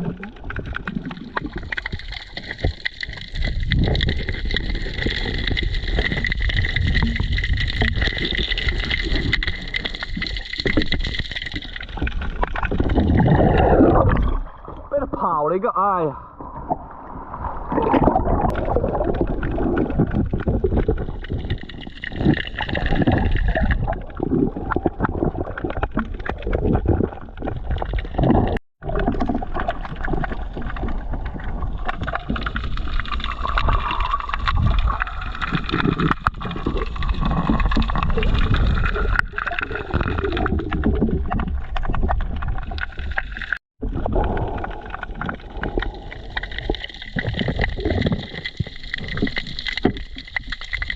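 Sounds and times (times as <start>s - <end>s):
deep underwater rumble: 0.0s - 15.3s, 16.2s - 50.9s
underwater sloshing and gurgling: 0.0s - 50.9s.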